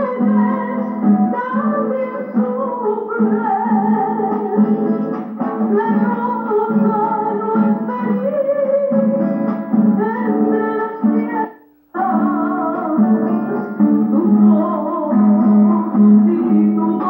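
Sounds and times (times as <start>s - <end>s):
classical guitar: 0.0s - 17.0s
woman singing: 0.0s - 17.0s.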